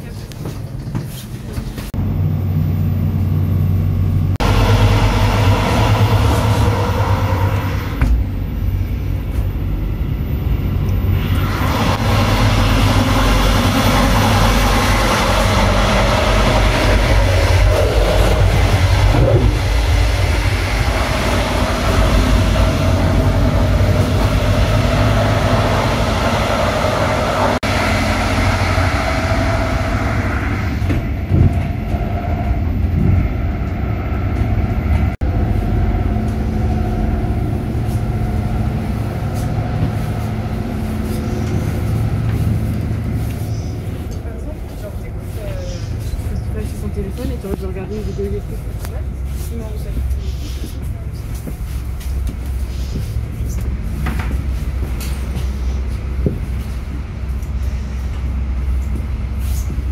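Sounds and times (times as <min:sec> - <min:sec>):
train wheels rumbling: 0:00.0 - 0:59.9
rushing noise: 0:02.0 - 0:59.9.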